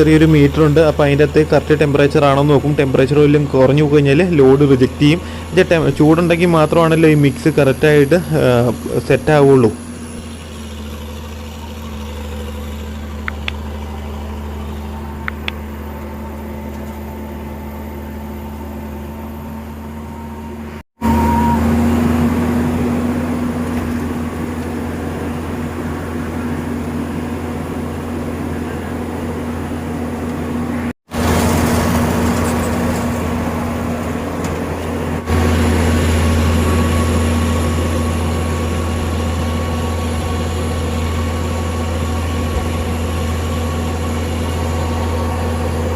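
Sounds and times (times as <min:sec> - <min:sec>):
heavy diesel engines droning: 0:00.0 - 0:45.9.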